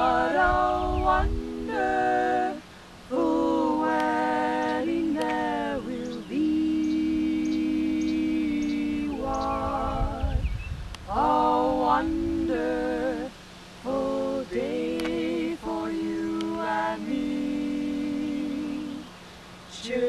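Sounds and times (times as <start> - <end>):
women singing a cappella: 0.0 - 20.0.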